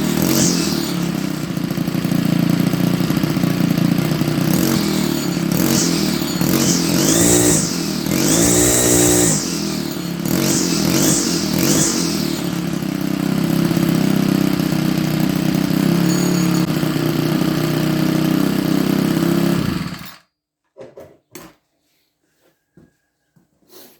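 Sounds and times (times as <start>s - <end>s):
string trimmer engine revving: 0.0s - 20.2s.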